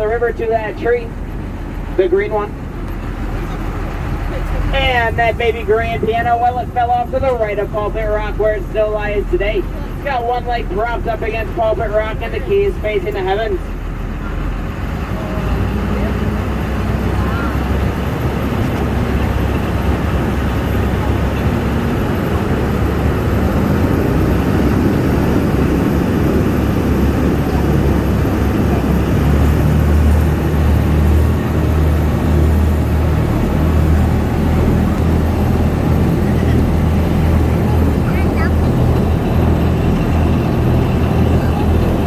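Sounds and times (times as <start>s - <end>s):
boat engine drone: 0.0s - 42.0s
water noise: 0.0s - 42.0s
wind: 0.0s - 42.0s.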